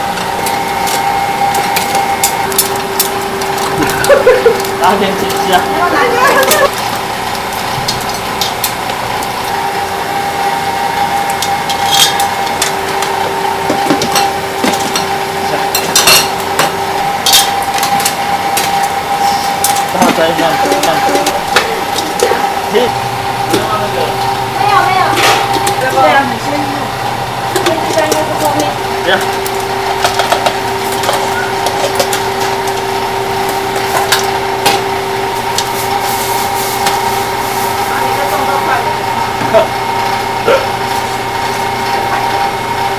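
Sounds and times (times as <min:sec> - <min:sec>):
steady mechanical hum: 0:00.0 - 0:42.9.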